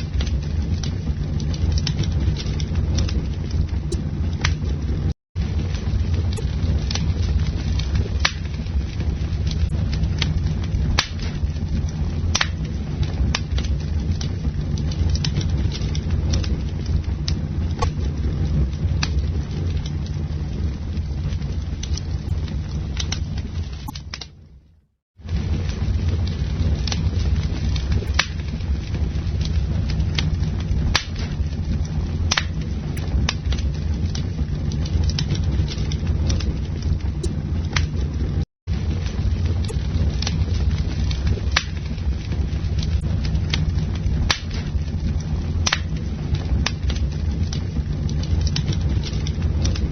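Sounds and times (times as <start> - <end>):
low rumble of flames: 0.0 - 49.9
wood crackling and popping: 0.0 - 49.9.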